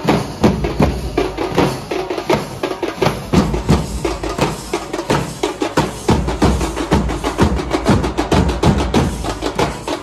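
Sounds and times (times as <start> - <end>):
drum ensemble beating fast: 0.0 - 10.0.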